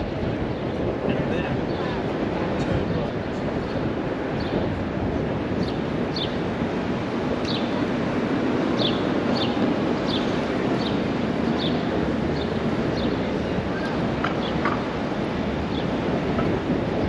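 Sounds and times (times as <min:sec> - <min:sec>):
city traffic: 0:00.0 - 0:17.0
crowd noise: 0:00.0 - 0:17.0.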